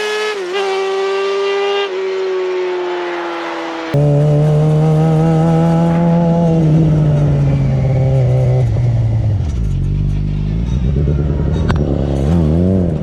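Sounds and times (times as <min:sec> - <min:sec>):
motorcycle engine high revs: 0:00.0 - 0:02.2, 0:04.0 - 0:13.0.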